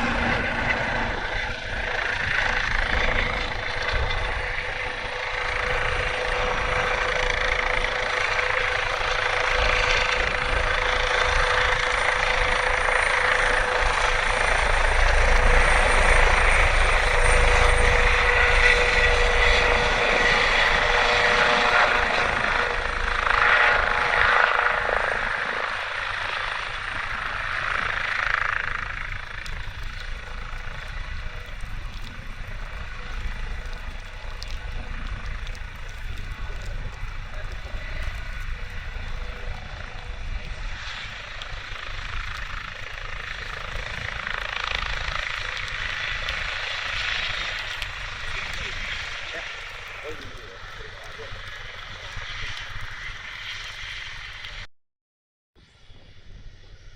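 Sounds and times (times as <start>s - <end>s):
helicopter turbine and rotor: 0.0s - 54.7s, 55.6s - 56.9s.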